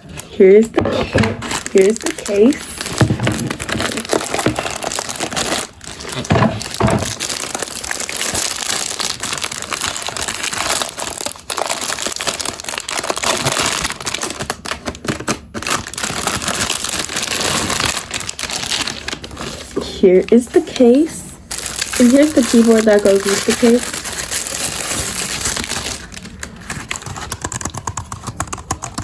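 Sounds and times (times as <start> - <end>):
packaging crinkling: 0.9 - 20.7, 21.5 - 29.0.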